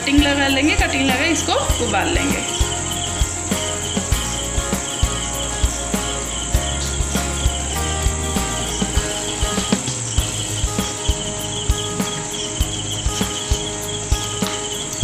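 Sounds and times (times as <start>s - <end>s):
background music with steady beat: 0.0s - 15.0s
high insect-like chirping: 0.0s - 15.0s.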